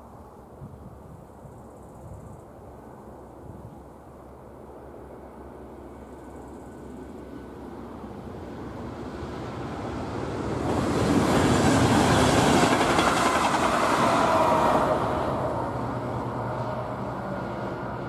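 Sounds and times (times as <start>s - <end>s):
train wheels rumbling on rail: 1.6s - 18.0s.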